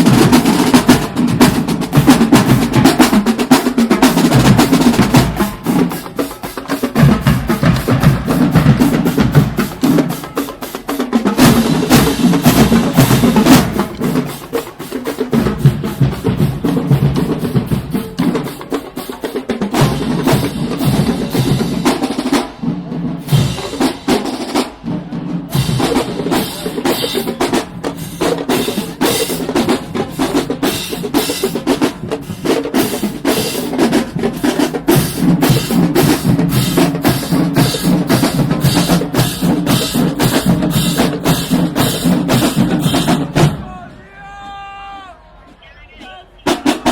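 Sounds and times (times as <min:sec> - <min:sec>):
drumline playing snare and bass drums: 0:00.0 - 0:44.9, 0:45.5 - 0:46.9.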